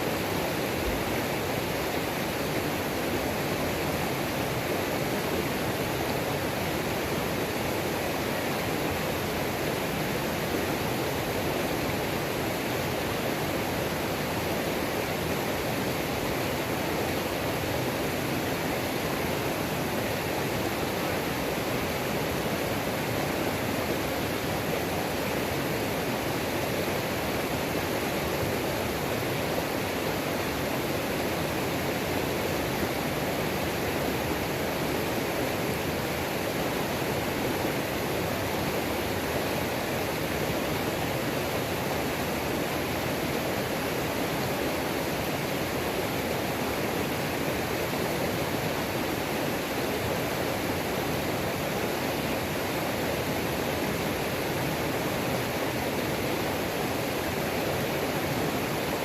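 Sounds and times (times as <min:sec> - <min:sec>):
waterfall pouring and splashing: 0:00.0 - 0:59.0.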